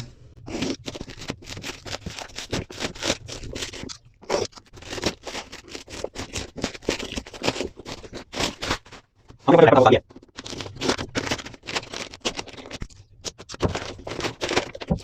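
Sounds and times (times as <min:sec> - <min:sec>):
hands scraping cardboard packaging: 0:00.0 - 0:09.4, 0:10.0 - 0:15.0.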